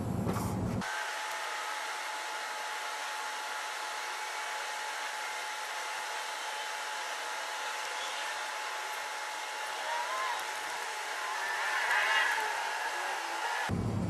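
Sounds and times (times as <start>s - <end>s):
thin constant whine: 0.0s - 14.0s.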